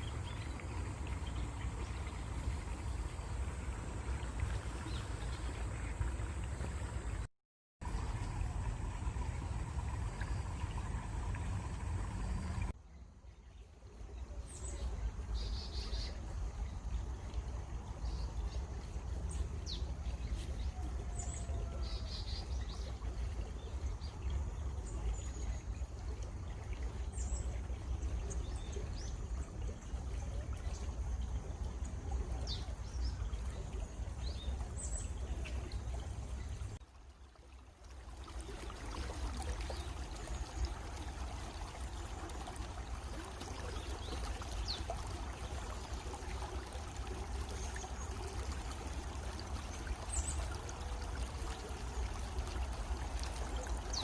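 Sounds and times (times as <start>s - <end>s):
stream water rushing: 0.0s - 12.8s, 14.6s - 54.0s.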